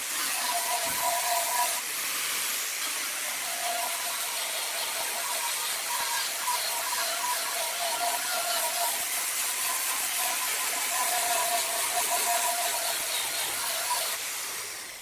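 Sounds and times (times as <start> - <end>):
tool hissing on spinning wood: 0.0 - 15.0.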